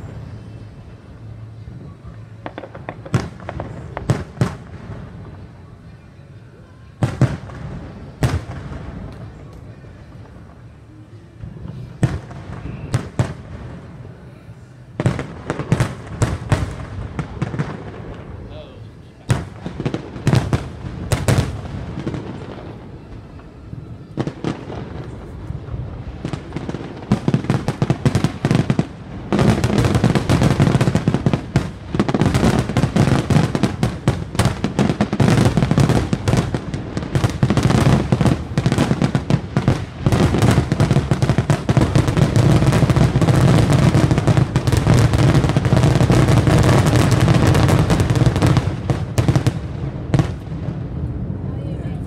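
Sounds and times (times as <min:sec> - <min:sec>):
fireworks bursting: 0:00.0 - 0:52.0
fireworks crackle: 0:00.0 - 0:52.0.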